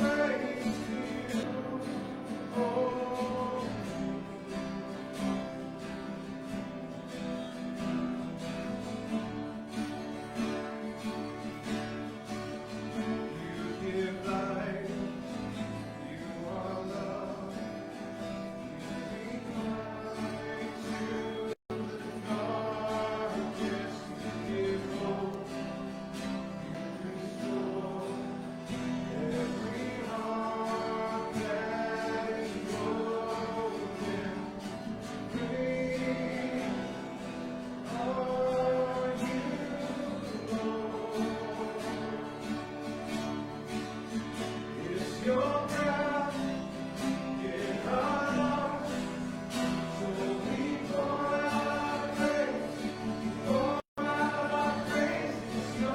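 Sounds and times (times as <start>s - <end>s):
congregation singing: 0.0s - 55.9s
guitar: 0.0s - 55.9s.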